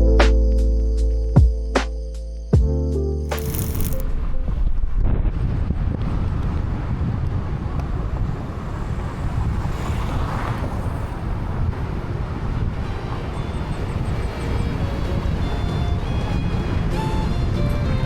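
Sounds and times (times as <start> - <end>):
wind buffeting microphone: 3.5 - 18.0.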